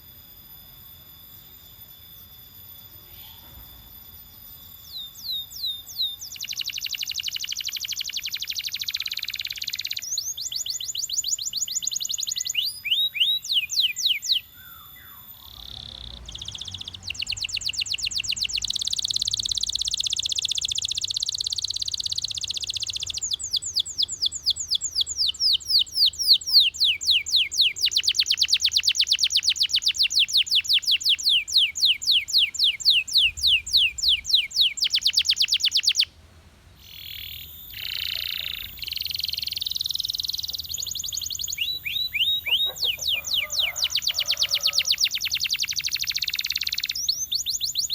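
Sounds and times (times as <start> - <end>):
canary singing trills: 0.0 - 36.1, 36.8 - 47.9.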